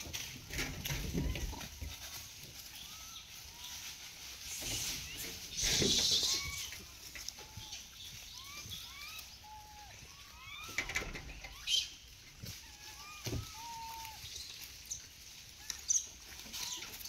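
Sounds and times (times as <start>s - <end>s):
loud rustle: 0.0s - 17.0s
birds chirping: 2.6s - 17.0s.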